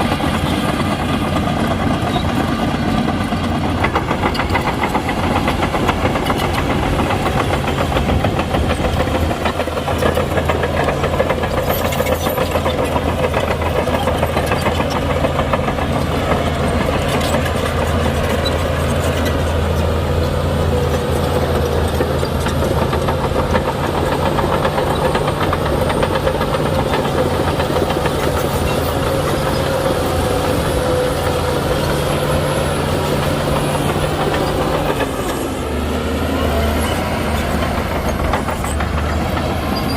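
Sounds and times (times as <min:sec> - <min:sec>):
bulldozer diesel engine running: 0:00.0 - 0:39.9
steel tracks clattering: 0:00.0 - 0:39.9.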